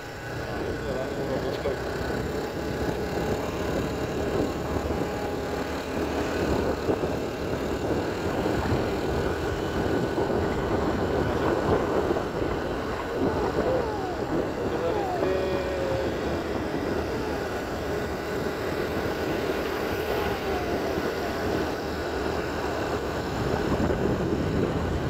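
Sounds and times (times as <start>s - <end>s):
motorcycle engine cruising: 0.0s - 25.0s
wind on microphone: 2.2s - 25.0s.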